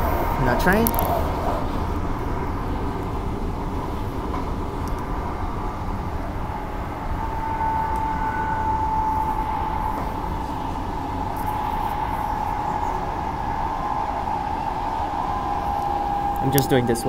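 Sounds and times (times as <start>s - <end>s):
high whine: 0.0s - 17.0s
train wheels rumbling on track: 0.0s - 17.0s.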